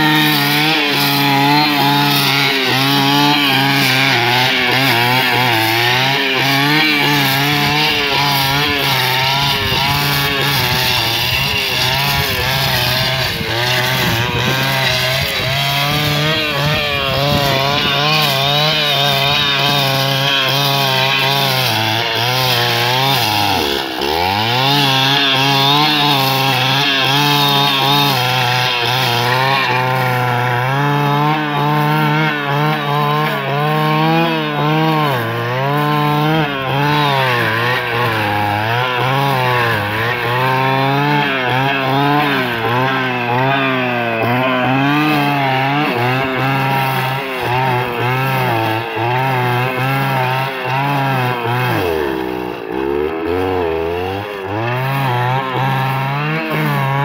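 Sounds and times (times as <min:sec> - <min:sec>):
blade cutting dry grass: 0:00.0 - 0:57.0
brushcutter engine at high revs: 0:00.0 - 0:57.0.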